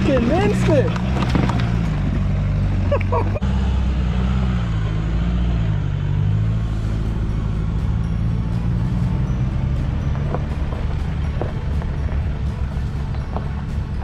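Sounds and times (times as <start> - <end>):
vehicle engine running under load: 0.0 - 14.0.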